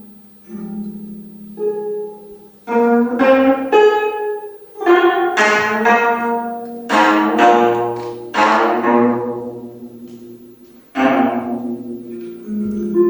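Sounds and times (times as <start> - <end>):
plucked zither chords: 0.0 - 13.0.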